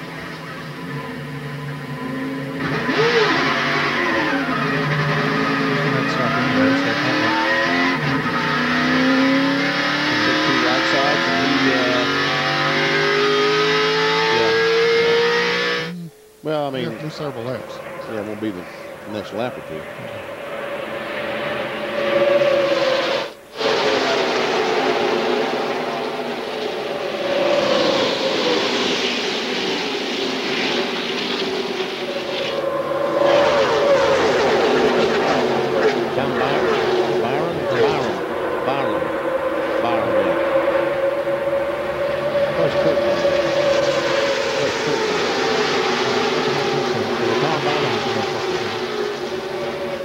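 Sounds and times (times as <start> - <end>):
race car engine accelerating: 0.0 - 16.2, 16.8 - 50.0.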